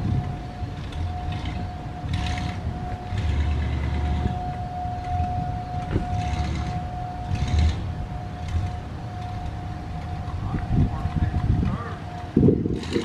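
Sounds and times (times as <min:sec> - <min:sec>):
rotating siren tone: 0:00.0 - 0:13.0
wind on microphone: 0:00.0 - 0:13.0.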